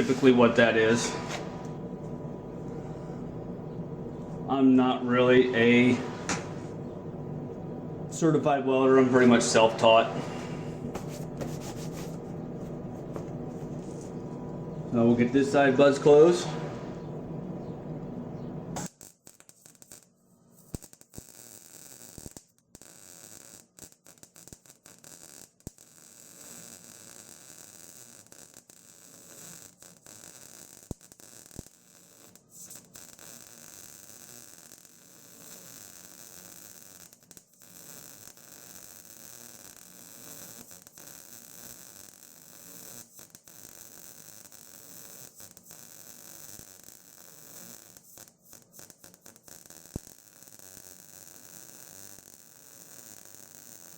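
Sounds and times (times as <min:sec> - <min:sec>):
welder arc buzzing: 0:00.0 - 0:53.9.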